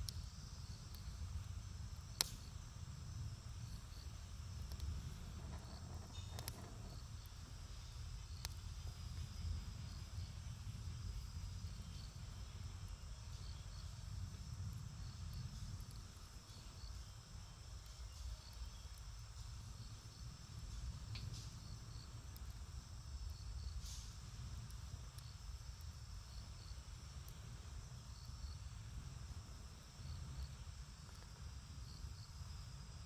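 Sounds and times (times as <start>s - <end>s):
campfire crackling: 0.0s - 33.0s
insect trill: 0.0s - 33.0s.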